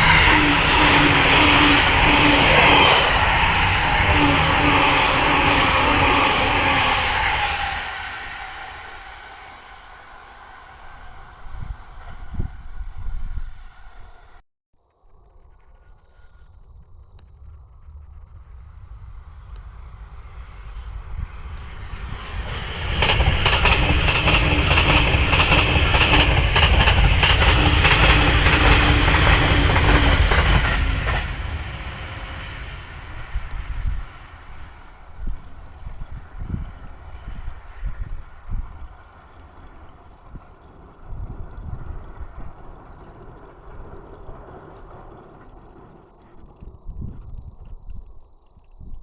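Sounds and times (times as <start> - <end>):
electric train passing: 0.0 - 14.4, 17.2 - 46.9
wind buffeting microphone: 0.0 - 14.4, 15.4 - 49.0
steady outdoor hiss: 0.0 - 49.0.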